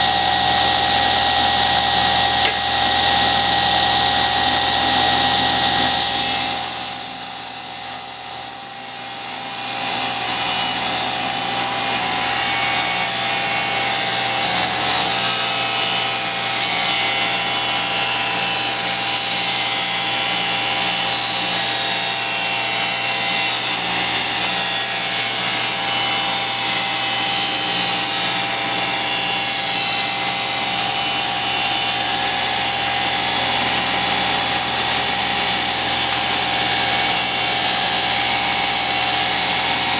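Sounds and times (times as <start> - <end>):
table saw ripping wood: 1.4 - 4.0, 5.7 - 39.9.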